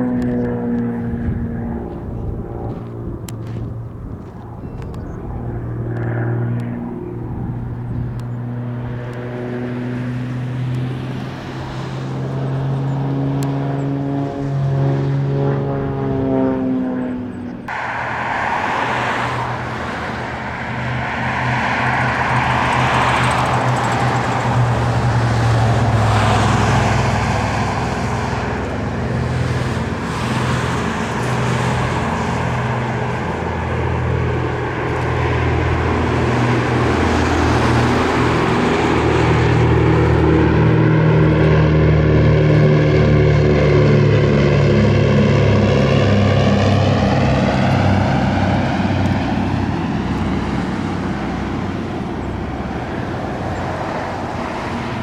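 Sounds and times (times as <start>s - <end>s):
propeller aircraft flying past: 0.0s - 55.0s.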